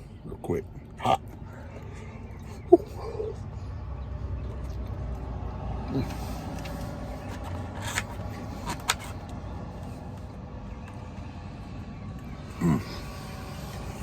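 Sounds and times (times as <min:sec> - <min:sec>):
truck diesel engine idling: 0:00.0 - 0:14.0.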